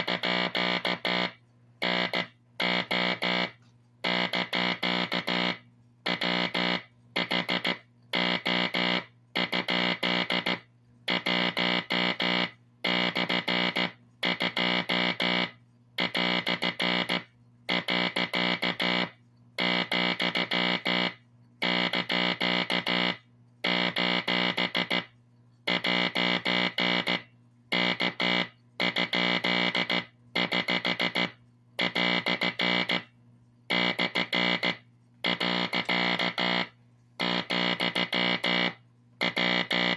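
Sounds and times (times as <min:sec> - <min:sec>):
buzzy morse code tone: 0:00.0 - 0:39.9
steady low hum: 0:00.0 - 0:39.9.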